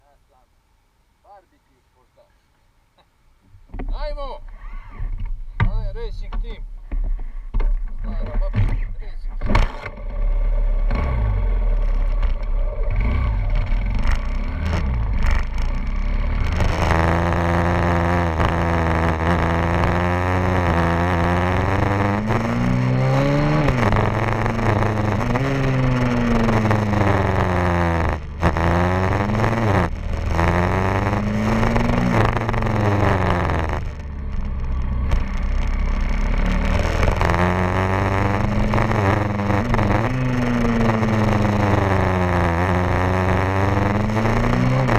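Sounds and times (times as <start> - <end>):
motorbike engine revving: 8.2 - 44.9.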